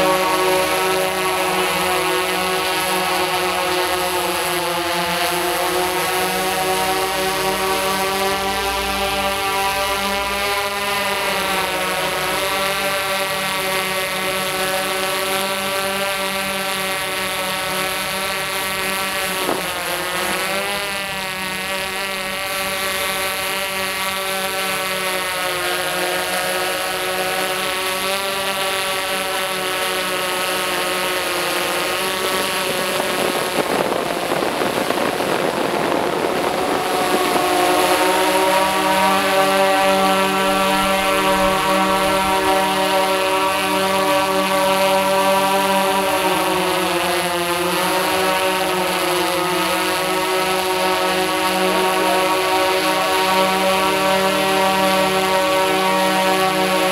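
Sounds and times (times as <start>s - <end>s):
drone propellers humming: 0.0s - 56.9s.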